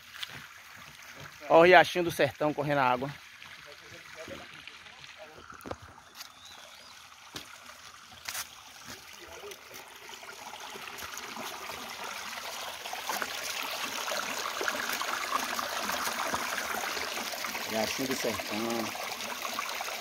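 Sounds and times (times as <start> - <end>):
creek trickling over stones: 0.0 - 20.0.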